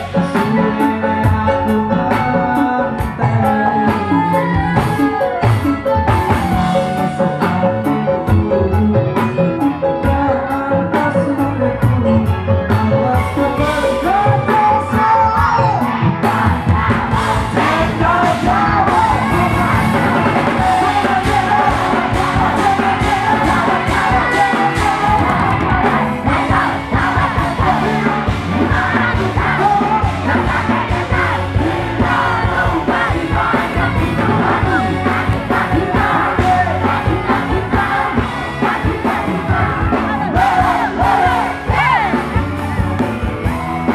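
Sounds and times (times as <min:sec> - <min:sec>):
person singing: 0:00.0 - 0:42.7
crowd yelling and singing along: 0:00.0 - 0:43.9
live rock band playing: 0:00.0 - 0:43.9.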